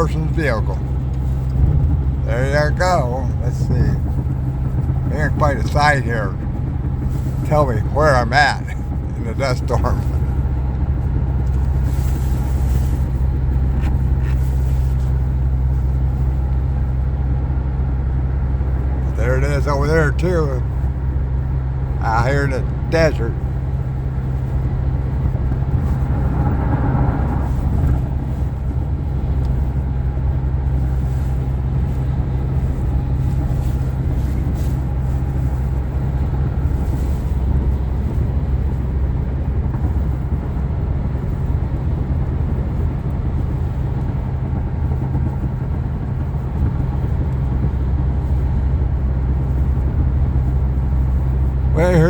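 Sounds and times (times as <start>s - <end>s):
engine and road drone in cab: 0.0s - 52.0s.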